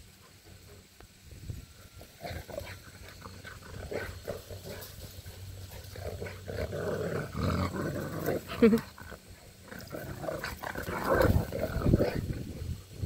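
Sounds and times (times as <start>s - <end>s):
dogs playing: 0.0s - 12.7s.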